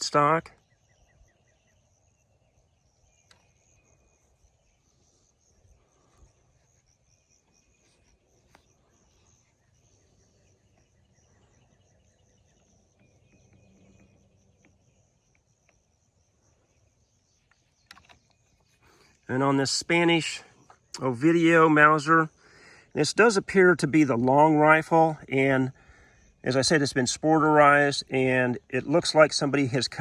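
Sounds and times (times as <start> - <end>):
faint insect chirring: 0.0 - 30.0.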